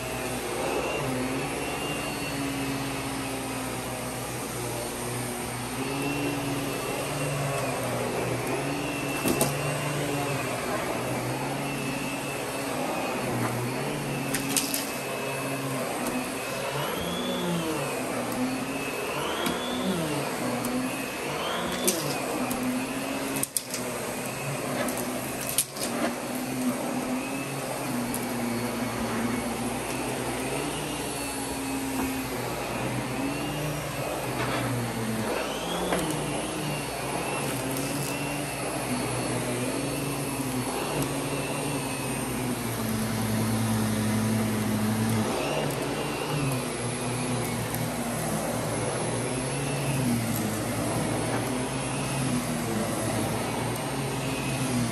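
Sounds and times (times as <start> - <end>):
vacuum cleaner motor whine: 0.0 - 54.9.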